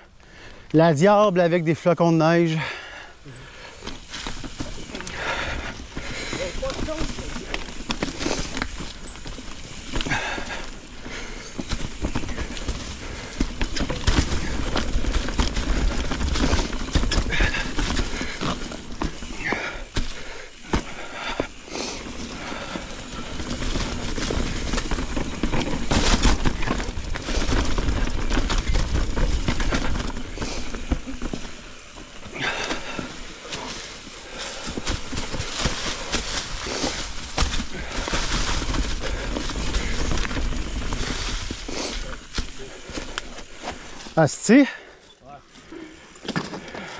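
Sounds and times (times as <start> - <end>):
bike tyres rolling over leaves: 0.3 - 46.9
bike rattles and knocks: 2.6 - 44.8, 45.6 - 46.9.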